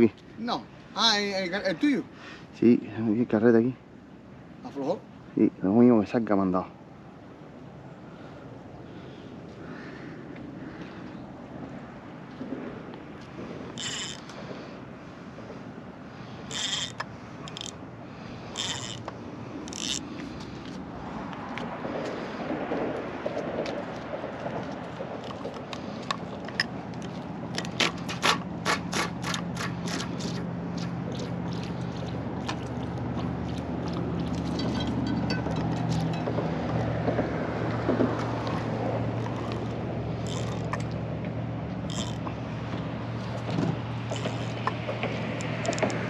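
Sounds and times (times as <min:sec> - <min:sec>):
engine hum: 0:07.1 - 0:46.0.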